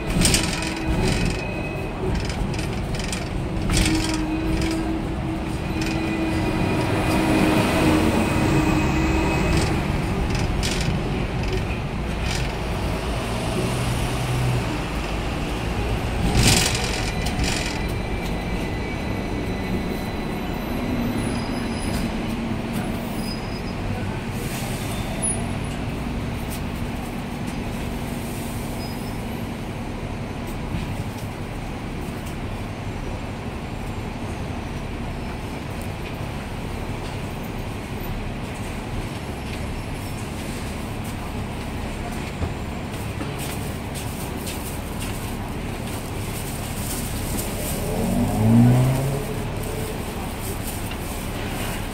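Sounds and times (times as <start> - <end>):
street traffic: 0.0 - 51.9
tram rumbling and rattling on rails: 0.0 - 51.9.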